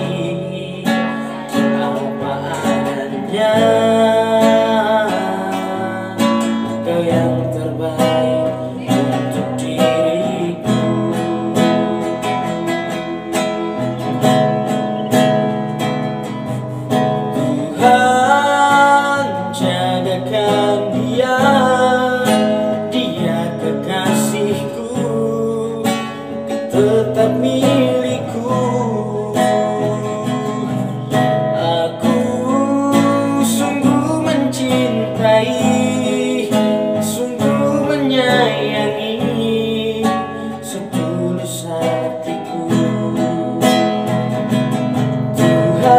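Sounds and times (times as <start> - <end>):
classical guitar strumming: 0.0 - 45.9
man singing: 0.0 - 45.9.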